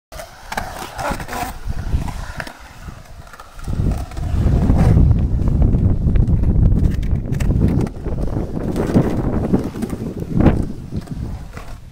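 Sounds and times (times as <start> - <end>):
skateboard wheels rolling on concrete: 0.1 - 11.9
wind buffeting microphone: 1.0 - 11.9.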